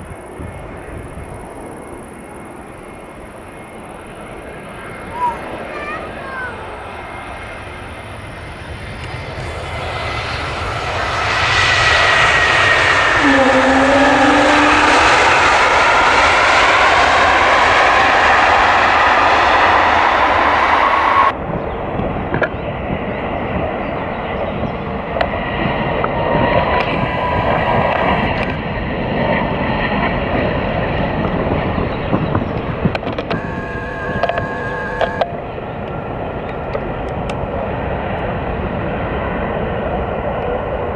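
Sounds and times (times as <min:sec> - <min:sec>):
jet airliner passing overhead: 0:00.0 - 0:40.9
steady jet engine noise: 0:00.0 - 0:40.9.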